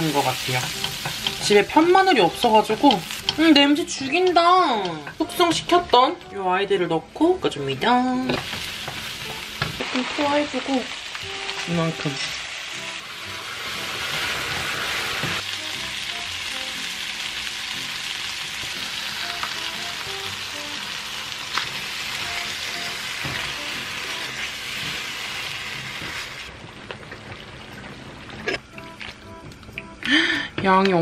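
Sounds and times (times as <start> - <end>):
food sizzling in a frying pan: 0.0 - 6.6, 7.6 - 31.0
light background music: 0.0 - 26.4, 27.7 - 31.0.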